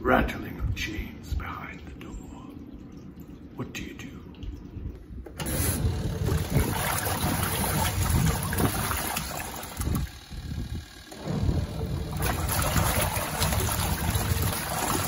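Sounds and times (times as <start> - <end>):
washing machine agitating: 1.3 - 15.0
water sloshing: 2.0 - 15.0.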